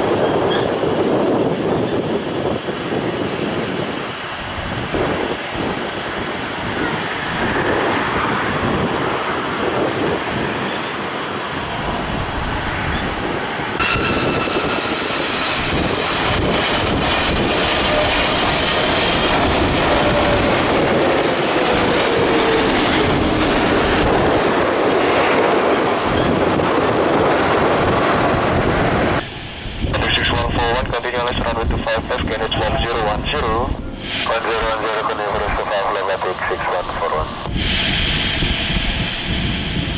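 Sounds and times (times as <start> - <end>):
high fan whine: 0.0 - 39.9
jet engine roar: 0.0 - 39.9.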